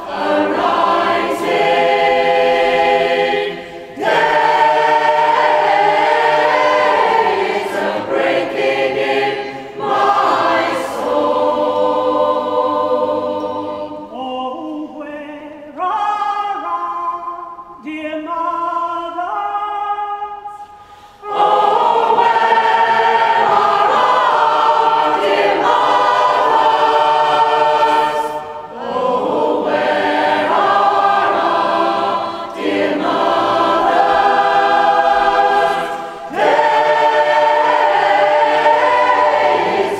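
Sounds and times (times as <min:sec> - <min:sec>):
choir singing unaccompanied: 0:00.0 - 0:15.3, 0:21.2 - 0:39.9.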